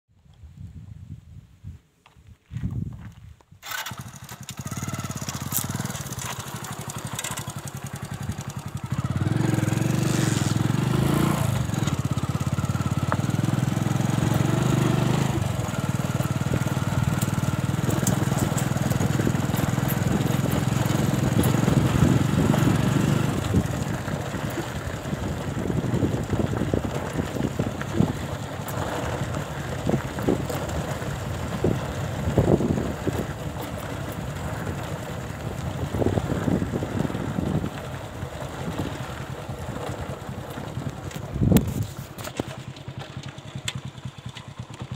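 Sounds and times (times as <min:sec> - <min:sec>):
small motorcycle engine running: 0:03.6 - 0:44.9.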